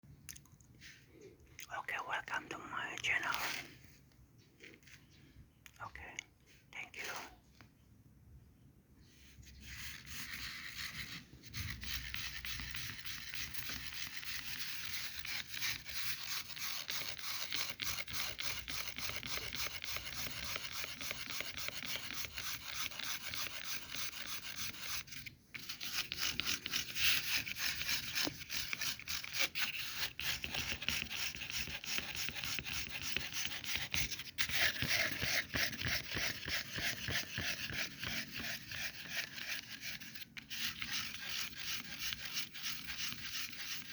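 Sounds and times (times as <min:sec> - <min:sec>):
scratching on microphone cover: 0:01.9 - 0:03.9, 0:09.4 - 0:43.9.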